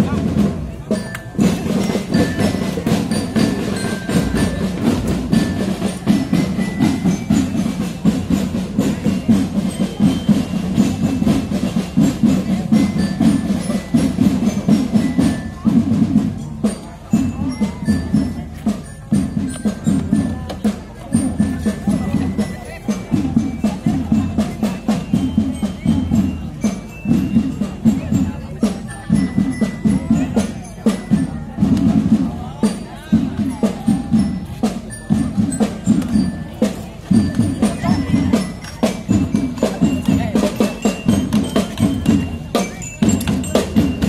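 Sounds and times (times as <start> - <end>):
rapid marching drum beats: 0.0 - 44.0
high bell-lyre notes: 0.1 - 44.0.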